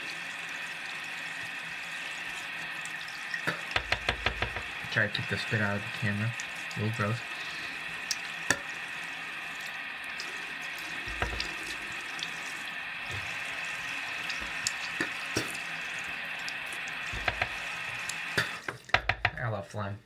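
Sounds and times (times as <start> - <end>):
tap water running into sink: 0.0 - 19.5.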